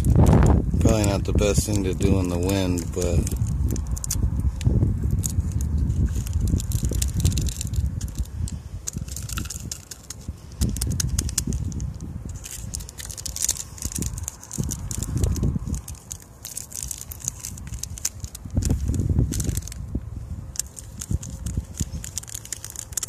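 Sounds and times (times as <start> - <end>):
spice packets crinkling: 0.0 - 23.0
wind buffeting microphone: 0.0 - 23.0.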